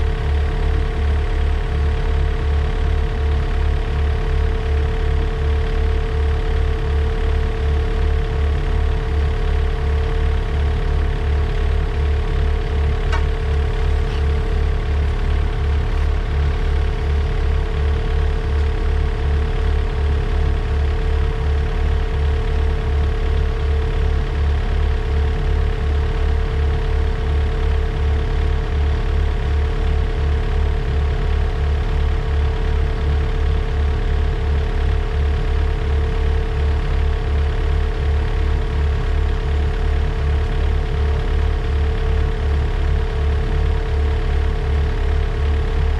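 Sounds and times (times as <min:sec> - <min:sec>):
diesel engine idling: 0:00.1 - 0:45.9.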